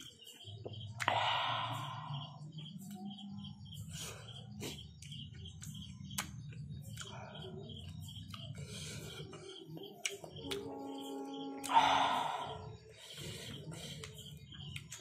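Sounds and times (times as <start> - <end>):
faint high chirp: 0.0 - 15.0.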